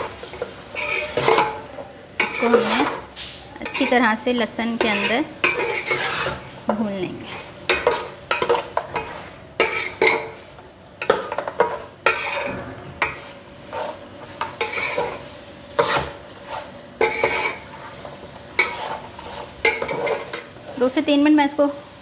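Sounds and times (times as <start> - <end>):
spatula scraping metal pot: 0.0 - 10.4, 11.0 - 15.2, 15.8 - 21.0
light sizzling: 0.0 - 22.0.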